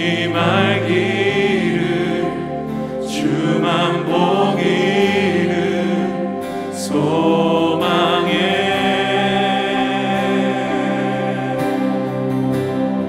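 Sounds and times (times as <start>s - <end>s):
singers singing worship song: 0.0s - 13.0s.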